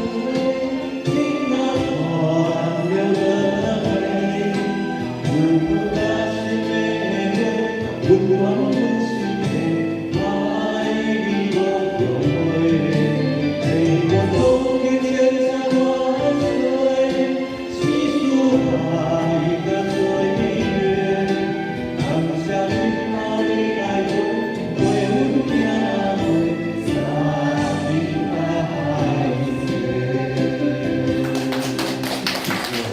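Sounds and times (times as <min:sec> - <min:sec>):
choir singing sustained chords: 0:00.0 - 0:31.4.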